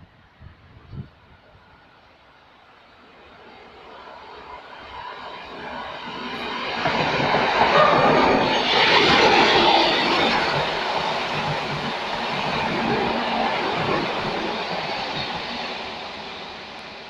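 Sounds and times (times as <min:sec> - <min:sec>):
electric train running past: 0:00.0 - 0:17.0.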